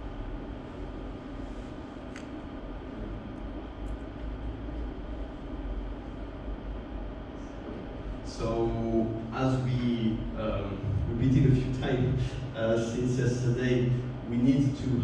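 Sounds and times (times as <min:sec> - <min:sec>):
room rumble and low hum: 0:00.0 - 0:15.0.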